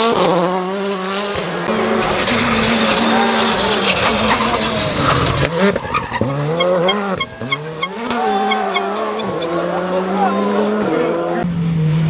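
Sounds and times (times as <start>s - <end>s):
rally car engine revving: 0.0s - 12.0s
tyres skidding: 1.3s - 11.3s.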